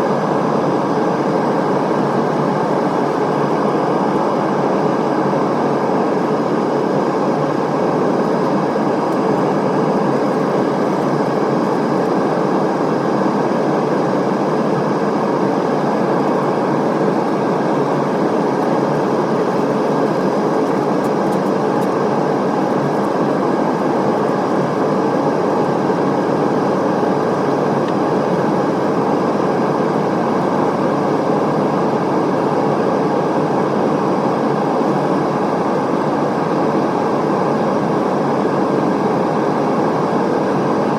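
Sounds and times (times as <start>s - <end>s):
airplane cabin airflow and engine noise: 0.0s - 40.9s.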